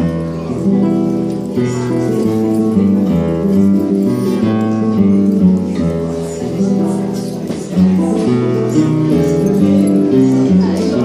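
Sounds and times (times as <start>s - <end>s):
acoustic guitar playing: 0.0s - 11.0s.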